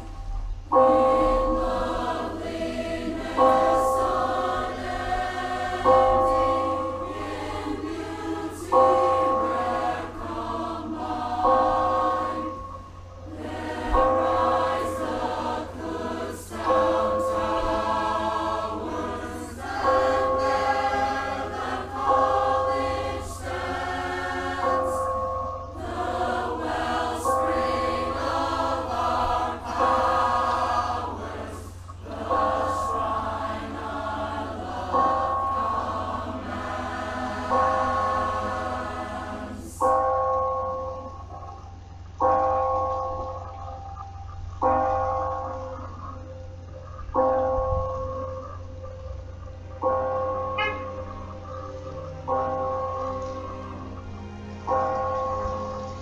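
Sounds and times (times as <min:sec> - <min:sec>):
tower bells ringing: 0:00.0 - 0:56.0.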